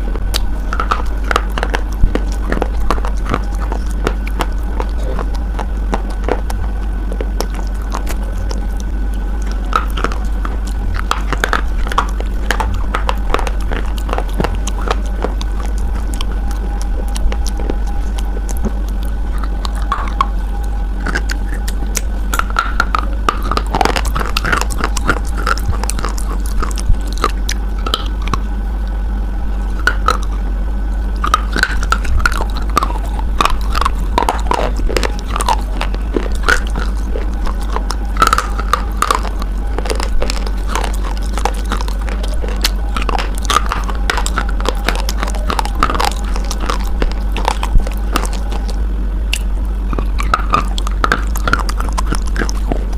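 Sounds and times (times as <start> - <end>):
crunchy biting and chewing: 0.0 - 52.9
steady low hum: 0.0 - 52.9.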